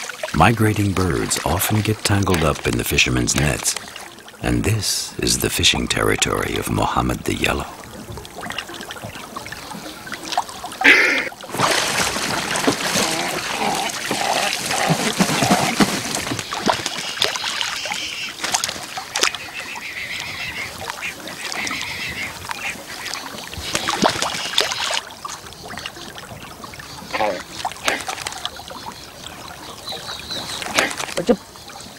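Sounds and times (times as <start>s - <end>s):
waterbirds honking: 0.0s - 11.5s, 12.2s - 31.9s.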